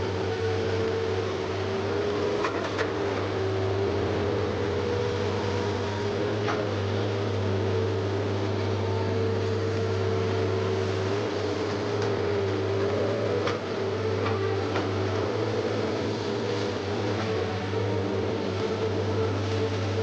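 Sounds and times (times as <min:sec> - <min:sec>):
excavator engine hum: 0:00.0 - 0:20.0.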